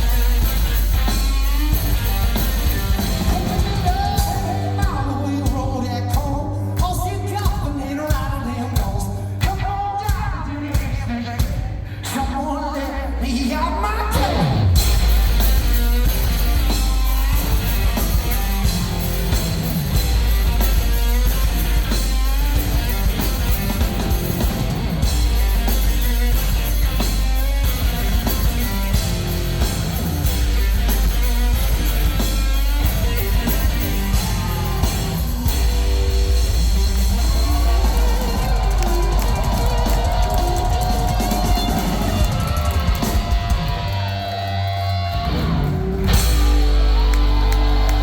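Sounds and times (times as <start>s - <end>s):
drum kit: 0.0s - 48.0s
electric guitar: 0.0s - 48.0s.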